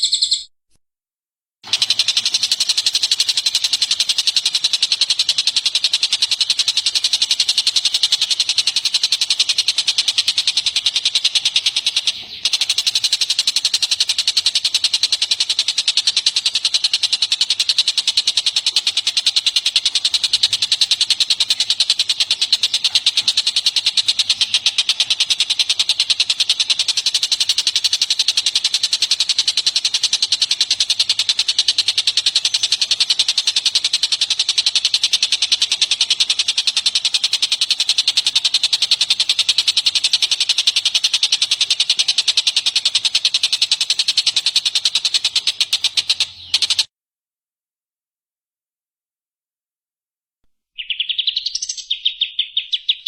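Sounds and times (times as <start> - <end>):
songbird chattering: 0.0 - 0.5, 1.6 - 46.9, 50.7 - 53.0.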